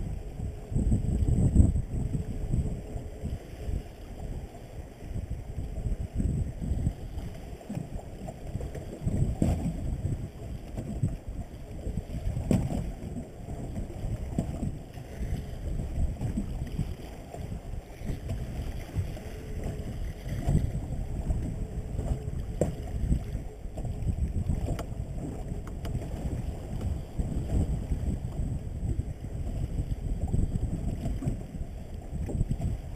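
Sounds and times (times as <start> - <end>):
water slapping against hull: 0.0 - 32.9
wind buffeting microphone: 0.0 - 32.9.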